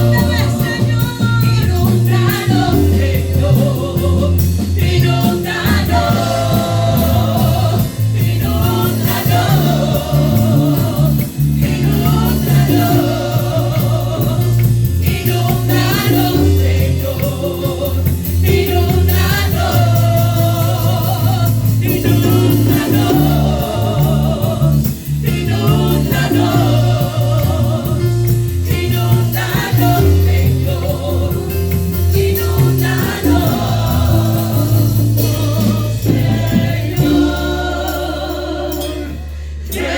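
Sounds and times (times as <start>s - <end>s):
band with bass and drums: 0.0s - 39.9s
gospel singers: 0.0s - 39.9s.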